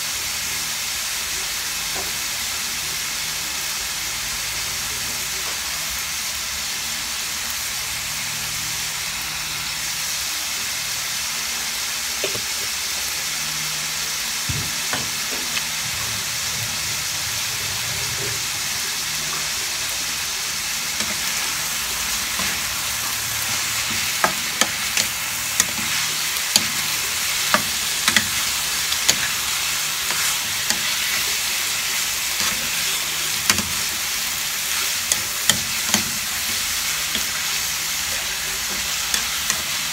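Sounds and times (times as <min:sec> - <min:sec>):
chicken sizzling in pan: 0:00.0 - 0:39.9.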